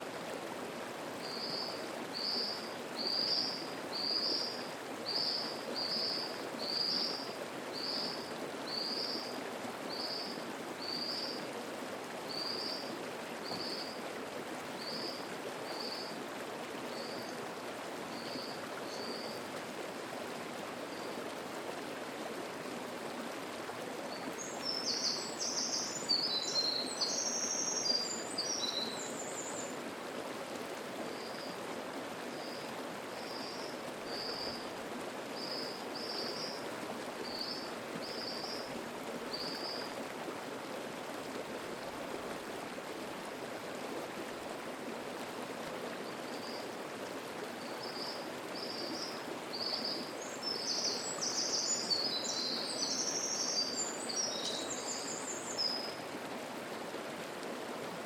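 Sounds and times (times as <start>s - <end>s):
mountain stream babbling over rocks: 0.0s - 58.0s.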